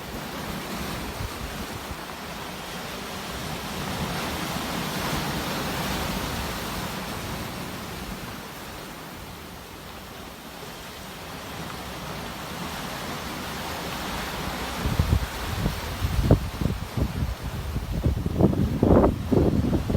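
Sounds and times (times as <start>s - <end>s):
sea waves washing on shore: 0.0s - 19.9s.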